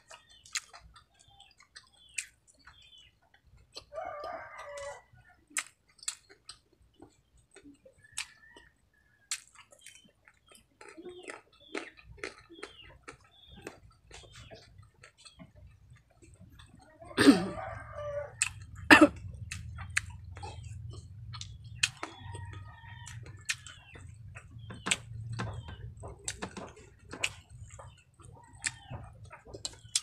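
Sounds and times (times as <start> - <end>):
crunching fried crab shells: 0.0 - 16.8, 17.6 - 30.0.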